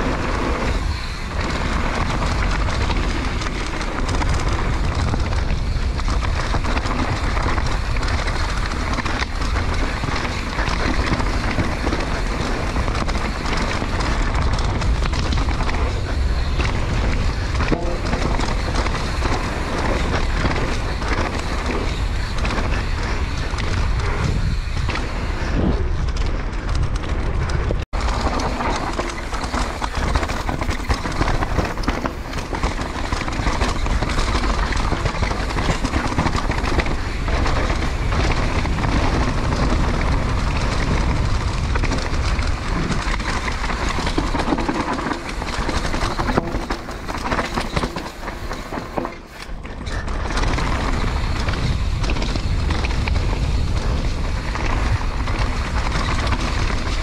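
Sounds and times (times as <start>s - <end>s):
mountain bike rattling over rocks: 0.0s - 57.0s
wind buffeting microphone: 0.0s - 57.0s.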